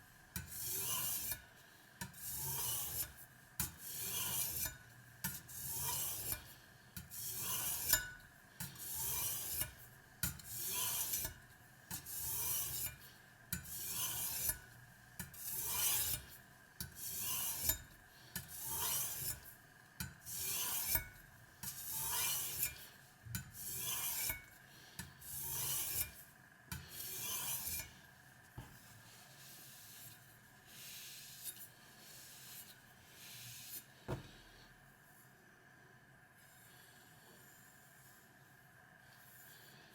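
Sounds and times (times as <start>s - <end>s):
knife scraping on whetstone: 0.4s - 19.5s, 20.2s - 28.0s, 28.6s - 34.3s.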